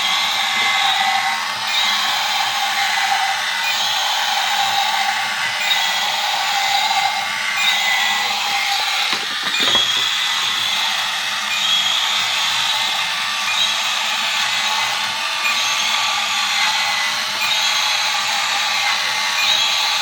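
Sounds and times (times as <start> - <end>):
small electric motor whirring: 0.0 - 20.0.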